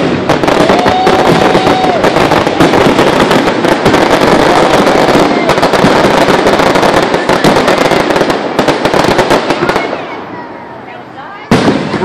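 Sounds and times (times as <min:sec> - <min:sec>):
fireworks reports and crackling: 0:00.0 - 0:12.0.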